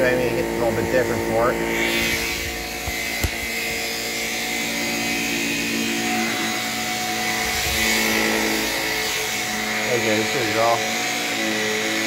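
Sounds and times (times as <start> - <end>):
stick vacuum running on carpet: 0.0 - 12.0.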